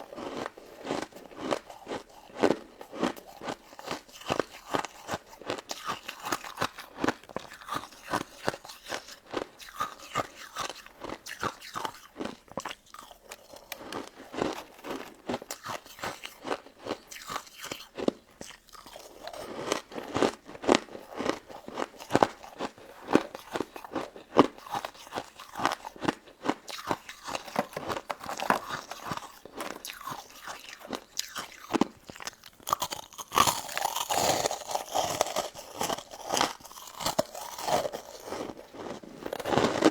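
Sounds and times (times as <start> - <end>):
crunching and chewing icy dessert: 0.0 - 39.9.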